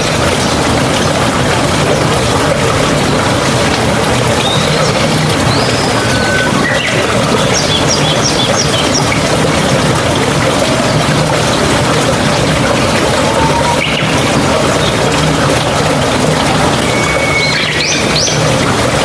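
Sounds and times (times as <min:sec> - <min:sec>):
stream water babbling: 0:00.0 - 0:19.0.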